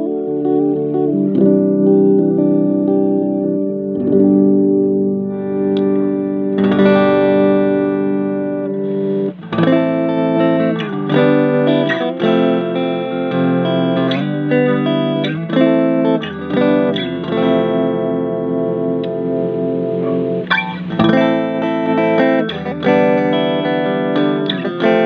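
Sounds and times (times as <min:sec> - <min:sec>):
electric guitar through amplifier: 0:00.0 - 0:25.0.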